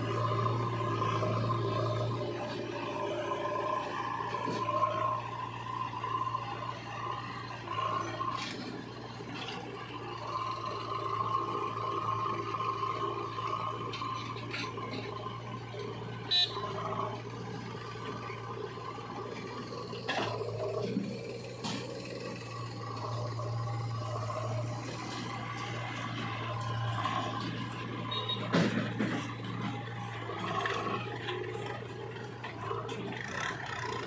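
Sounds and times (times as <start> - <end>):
heavy diesel engine humming: 0.0 - 34.0.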